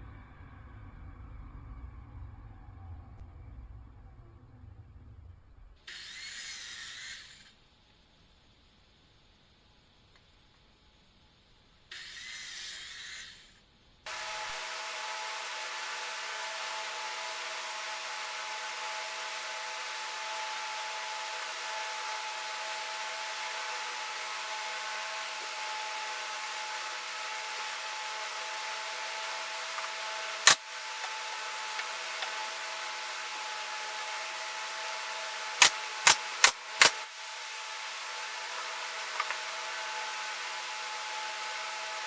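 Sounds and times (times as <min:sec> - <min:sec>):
machine hum with whining tones: 0:00.0 - 0:42.0.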